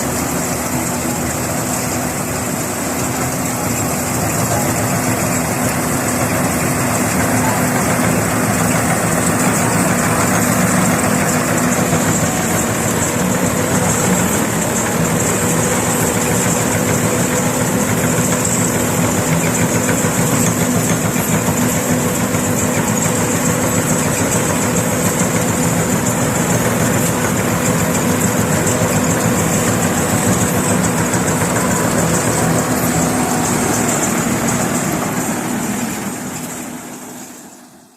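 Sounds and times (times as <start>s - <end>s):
combine harvester diesel engine: 0.0s - 37.9s.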